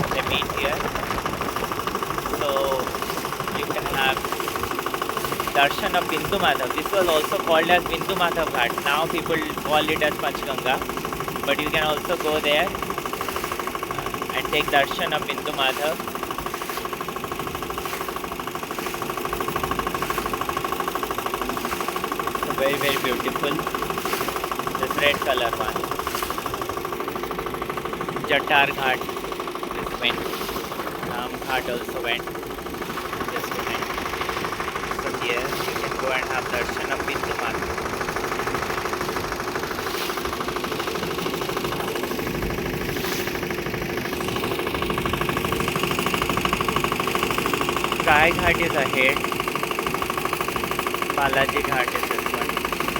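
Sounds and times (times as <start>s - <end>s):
motorboat engine running: 0.0s - 52.9s.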